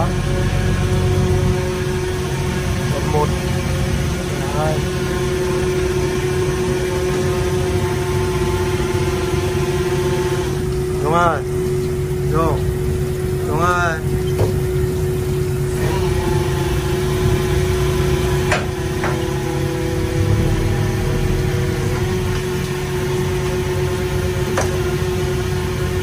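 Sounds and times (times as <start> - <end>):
factory machinery humming: 0.0 - 26.0.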